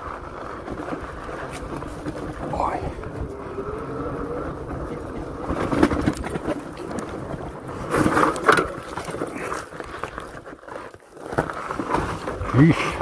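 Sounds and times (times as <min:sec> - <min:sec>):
faint electric motor whine: 0:00.0 - 0:12.5
bike jolting over rough ground: 0:00.0 - 0:13.0
tyre and wind rumble: 0:00.0 - 0:13.0.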